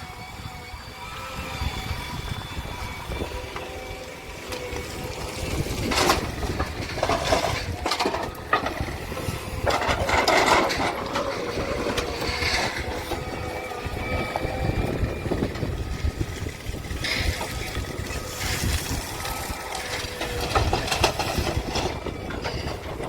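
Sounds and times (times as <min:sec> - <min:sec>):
excavator diesel engine: 0:00.0 - 0:23.0
bucket scraping and crunching earth: 0:03.6 - 0:23.0.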